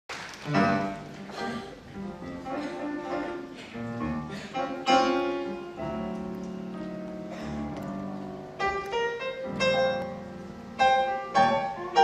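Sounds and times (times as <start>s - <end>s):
grand piano playing chords: 0.4s - 12.0s.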